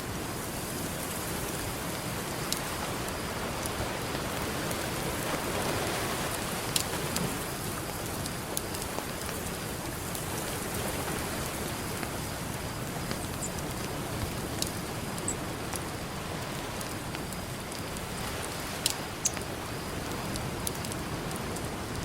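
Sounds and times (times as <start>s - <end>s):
campfire crackling and popping: 0.5s - 22.0s.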